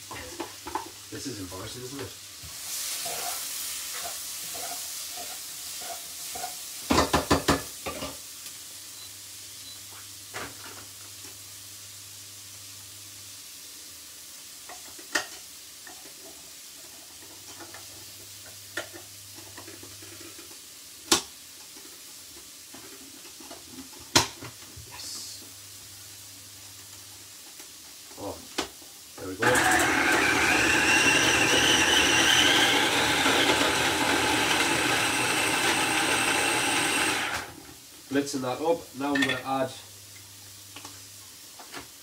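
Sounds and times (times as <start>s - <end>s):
peppers sizzling in frying pan: 0.0s - 42.0s.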